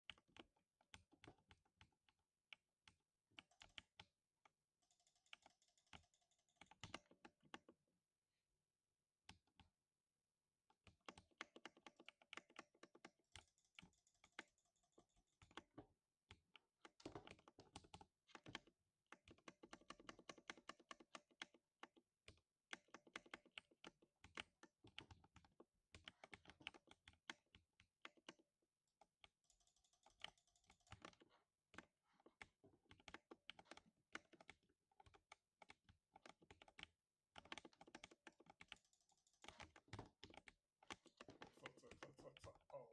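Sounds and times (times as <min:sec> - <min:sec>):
mechanical keyboard typing: 0:04.8 - 0:07.7, 0:10.9 - 0:42.8.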